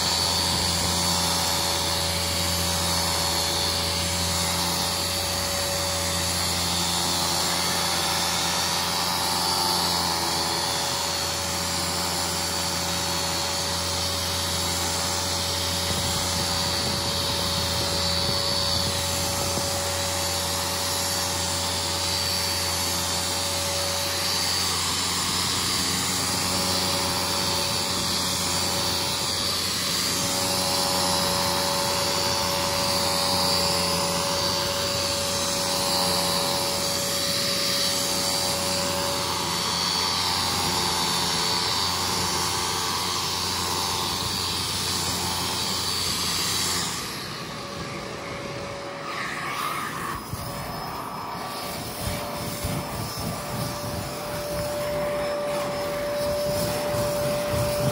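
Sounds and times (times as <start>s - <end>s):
wet vacuum whining: 0.0s - 57.9s.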